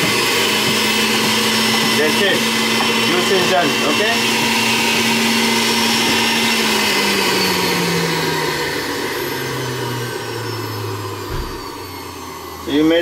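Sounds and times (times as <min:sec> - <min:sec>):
juicer motor whirring down: 0:00.0 - 0:13.0.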